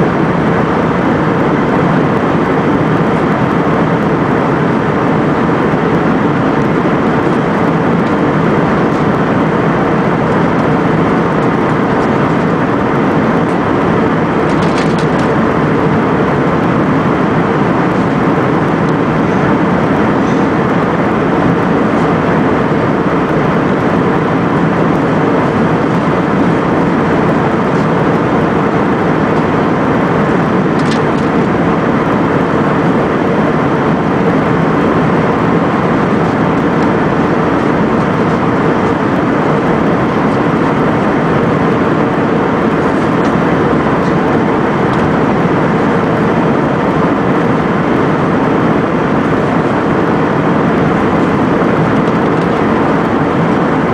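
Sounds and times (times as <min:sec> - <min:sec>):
airliner cabin engine rush: 0:00.0 - 0:53.9.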